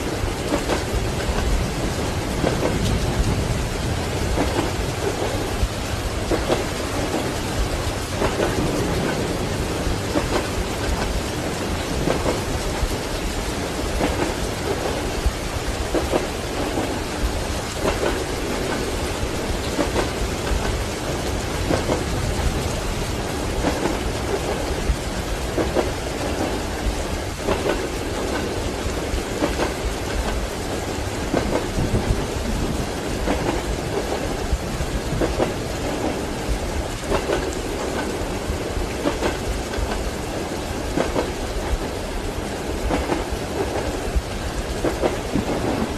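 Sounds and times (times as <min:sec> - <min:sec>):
heavy rain: 0:00.0 - 0:45.9
train wheels clicking over rail joints: 0:00.0 - 0:45.9
thunder: 0:00.1 - 0:40.0, 0:42.7 - 0:45.9.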